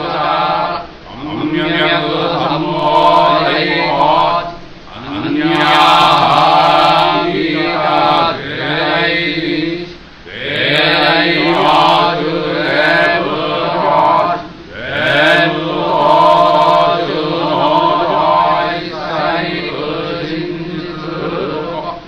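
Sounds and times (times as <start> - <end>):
monotone chanting voice: 0.0 - 22.0.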